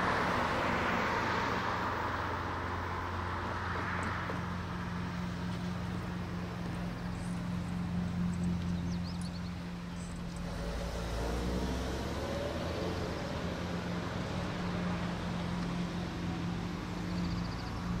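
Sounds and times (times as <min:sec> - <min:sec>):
car engines humming: 0:00.0 - 0:18.0
car passing: 0:00.0 - 0:18.0.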